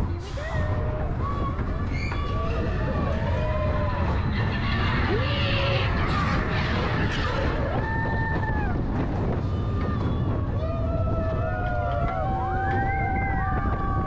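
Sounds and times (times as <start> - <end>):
low rumble of ride: 0.0 - 14.0
wind buffeting microphone: 0.0 - 14.0.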